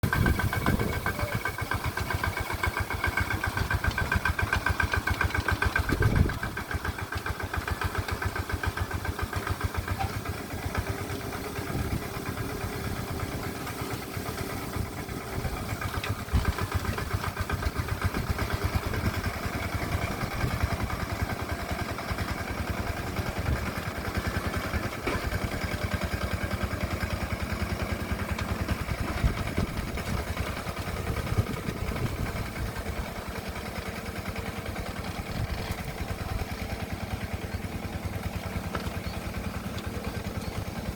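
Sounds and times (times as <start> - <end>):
hand tractor engine chugging: 0.0 - 40.9.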